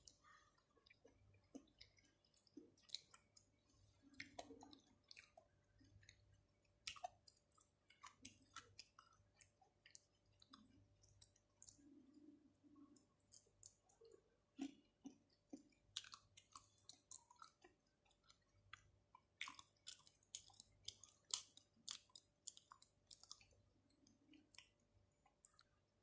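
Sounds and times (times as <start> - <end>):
wet chewing mouth sounds: 0.0 - 25.8.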